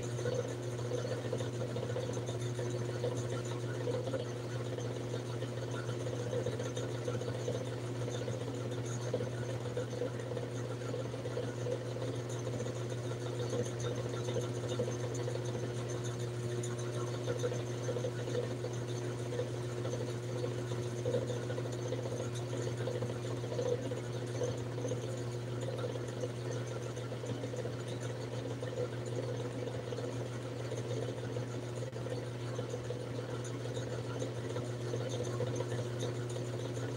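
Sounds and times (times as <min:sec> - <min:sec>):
small motor humming: 0:00.0 - 0:36.9.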